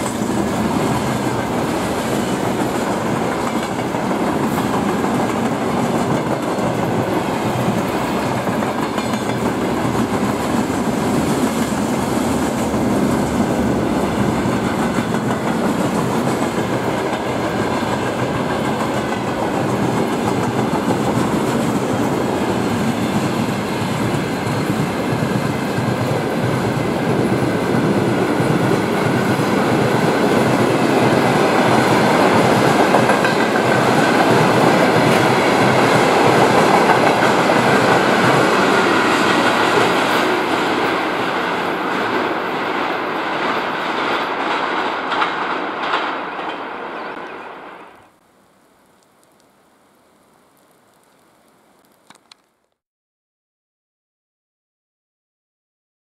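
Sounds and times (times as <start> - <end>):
freight train rolling past: 0.0 - 48.2.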